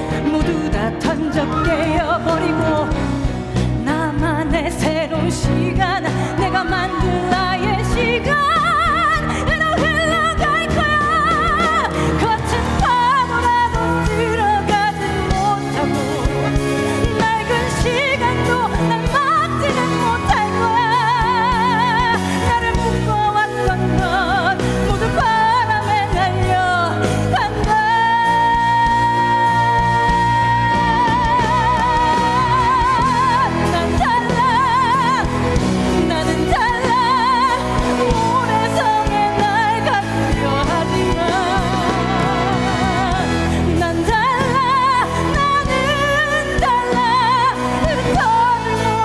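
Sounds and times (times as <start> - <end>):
sustained instrumental accompaniment: 0.0 - 49.0
woman singing a ballad: 0.0 - 49.0.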